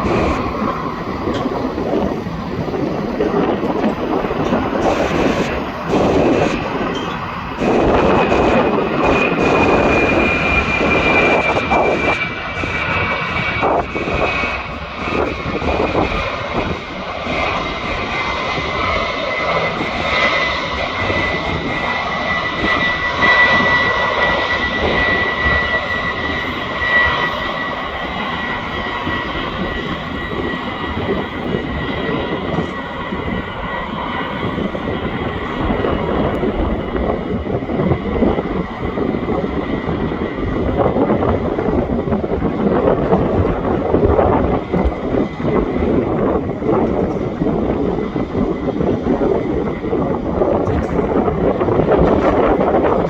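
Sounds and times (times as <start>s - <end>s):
high engine whine: 0.0s - 53.0s
jet engines roaring: 0.0s - 53.0s.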